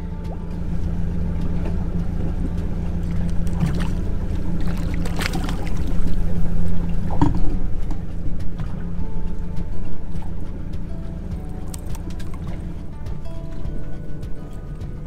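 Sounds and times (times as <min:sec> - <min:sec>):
boat engine idling: 0:00.0 - 0:15.0
water splashes or knocks: 0:00.0 - 0:15.0.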